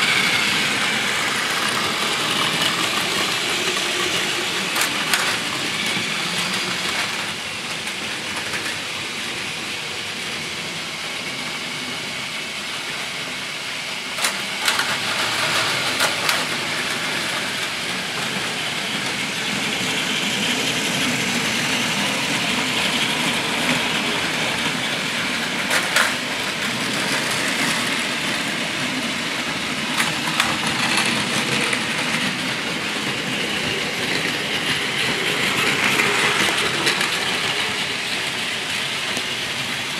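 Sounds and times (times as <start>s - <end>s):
toy train motors and wheels: 0.0s - 39.9s.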